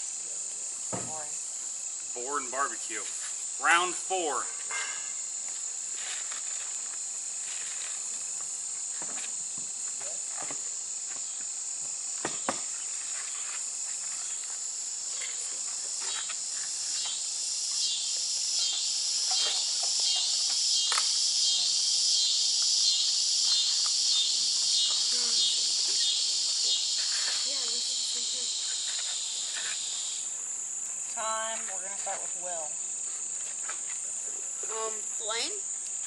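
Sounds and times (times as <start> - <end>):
crickets droning: 0.0 - 36.0
pulsing insect call: 0.0 - 36.0.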